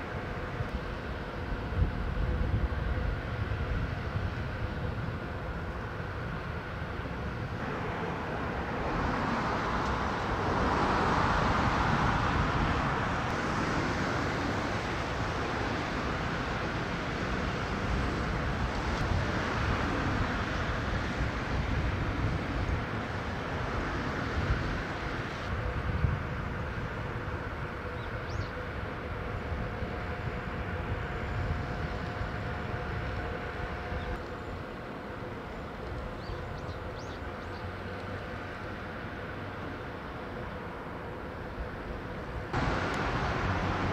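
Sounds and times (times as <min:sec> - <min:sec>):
industrial rumble and hiss: 0:00.0 - 0:43.9.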